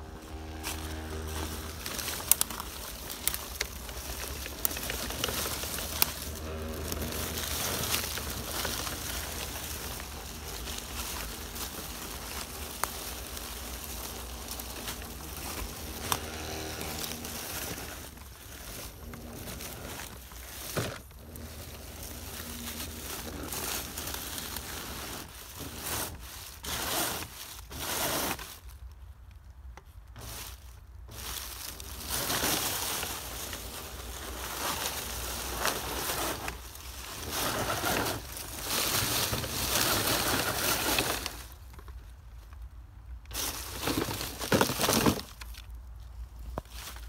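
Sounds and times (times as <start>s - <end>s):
dry leaves crunching and rustling: 0.0s - 47.0s.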